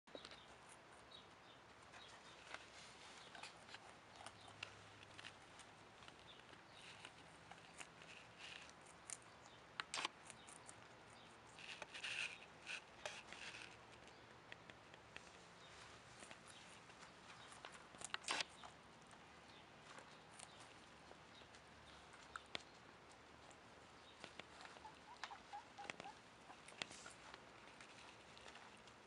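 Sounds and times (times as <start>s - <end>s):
guinea pig chewing carrot: 0.1s - 29.0s.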